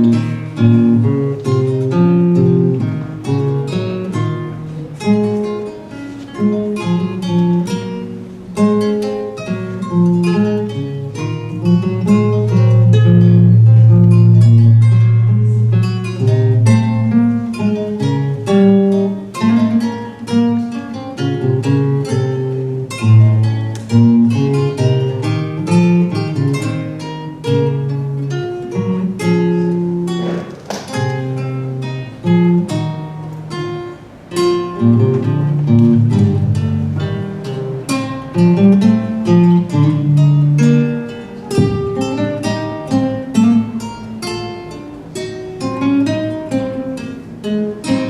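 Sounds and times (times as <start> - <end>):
acoustic guitar plucked notes: 0.0 - 48.0.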